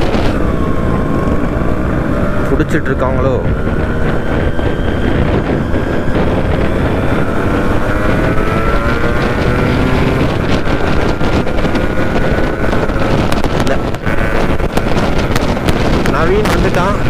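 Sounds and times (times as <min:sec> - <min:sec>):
two-stroke motorcycle engine: 0:00.0 - 0:17.0
wind on microphone: 0:00.0 - 0:17.0.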